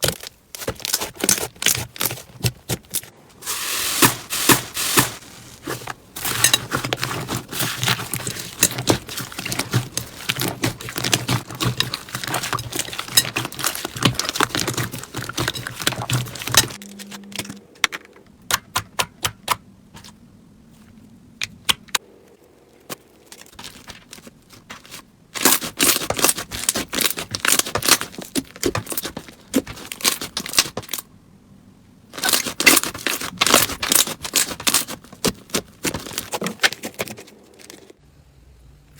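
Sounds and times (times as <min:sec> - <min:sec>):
sticky crackling and popping: 0:00.0 - 0:17.6, 0:21.4 - 0:31.0, 0:32.1 - 0:38.0.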